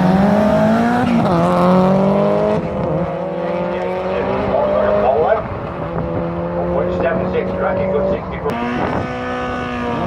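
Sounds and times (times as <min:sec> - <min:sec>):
drag racing engine at full throttle: 0:00.0 - 0:10.0.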